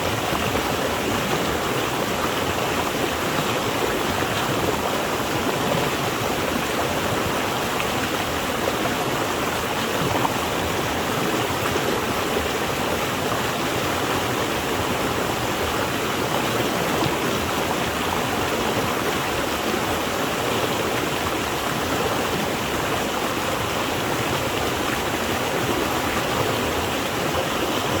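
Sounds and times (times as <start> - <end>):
water rushing and splashing: 0.0 - 28.0.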